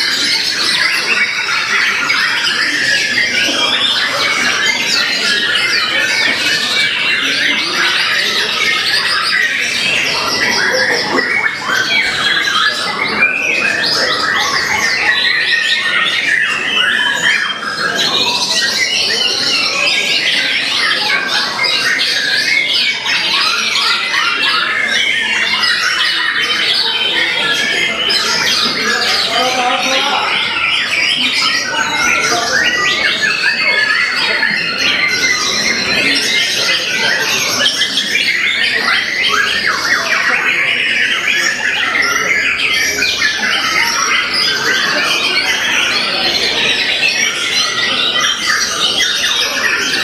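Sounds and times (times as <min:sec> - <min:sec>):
bird singing: 0:00.0 - 0:50.0.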